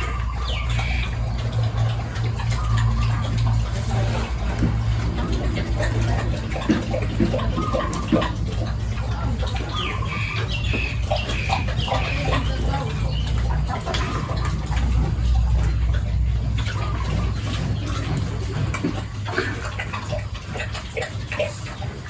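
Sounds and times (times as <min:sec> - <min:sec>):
low rumble: 0:00.0 - 0:20.8
farmyard animal calls: 0:00.0 - 0:22.0.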